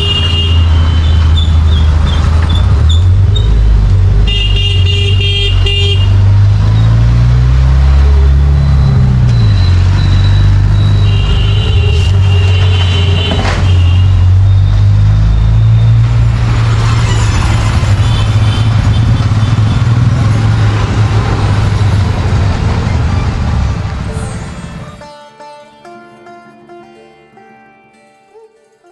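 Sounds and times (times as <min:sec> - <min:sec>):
vehicle engine running: 0:00.0 - 0:25.0
horns honking: 0:00.0 - 0:25.2.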